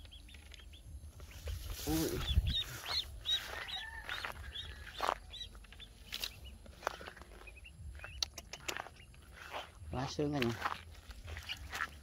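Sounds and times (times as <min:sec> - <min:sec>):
birds chirping: 0:00.0 - 0:12.0
clicks and rustles in grass: 0:00.0 - 0:12.0.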